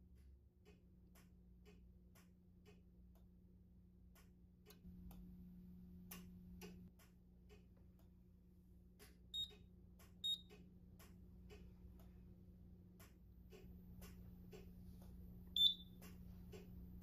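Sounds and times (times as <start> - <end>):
low hum: 3.2 - 17.0.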